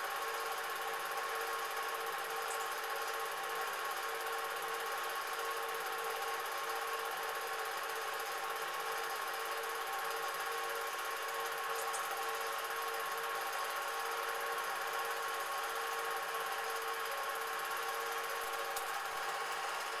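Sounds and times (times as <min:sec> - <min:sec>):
faint constant whine: 0:00.0 - 0:20.0
film projector whirring: 0:00.0 - 0:20.0.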